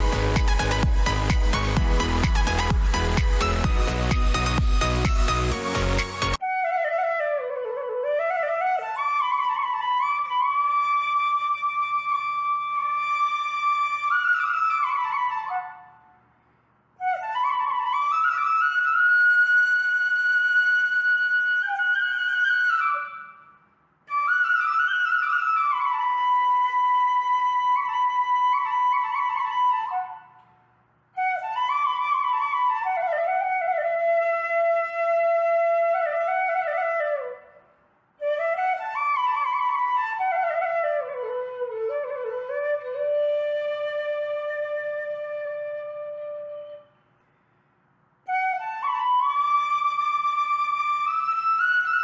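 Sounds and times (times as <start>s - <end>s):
solo flute melody: 0.0s - 16.2s, 17.0s - 30.6s, 31.2s - 47.1s, 48.3s - 52.0s.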